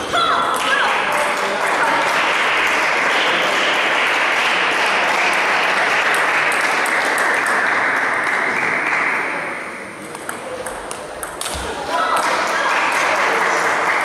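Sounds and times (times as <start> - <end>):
audience applause: 0.7 - 14.0.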